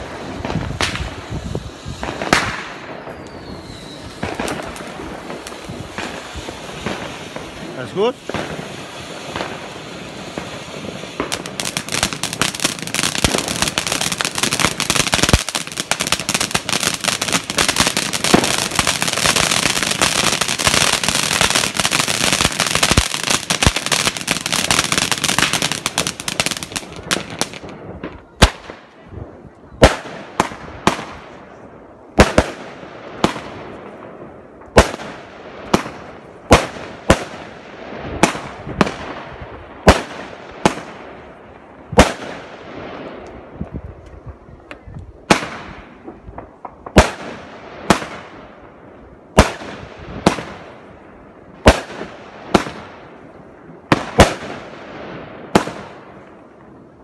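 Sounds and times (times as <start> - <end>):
loud firework bangs: 0.0 - 31.4, 32.1 - 43.2, 45.2 - 48.7, 49.3 - 51.0, 51.6 - 53.1, 53.8 - 56.2
fireworks crackling: 0.0 - 57.0.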